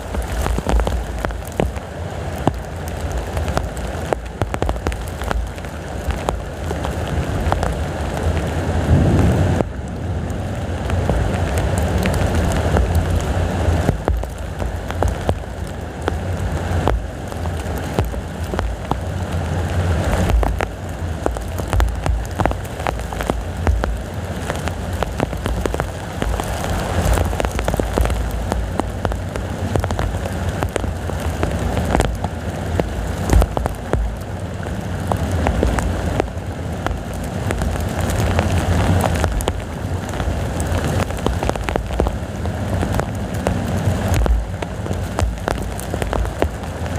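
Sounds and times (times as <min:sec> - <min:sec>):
heavy rain pouring: 0:00.0 - 0:46.9
strong wind rumbling: 0:00.0 - 0:46.9.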